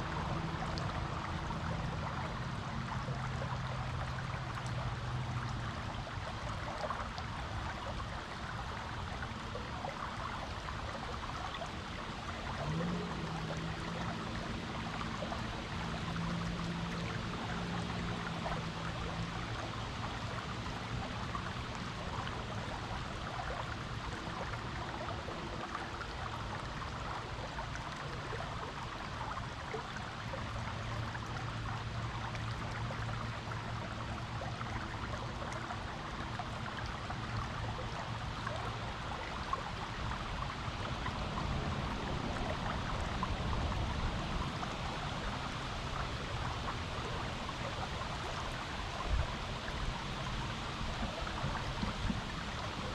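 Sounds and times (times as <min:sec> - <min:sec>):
faint low drone: 0:00.0 - 0:52.9
stream flowing: 0:00.0 - 0:52.9.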